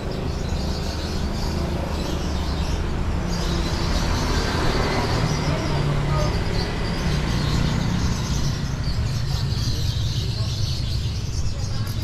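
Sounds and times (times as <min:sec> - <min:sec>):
caged birds chirping: 0:00.0 - 0:12.0
traffic rumble: 0:00.0 - 0:12.0.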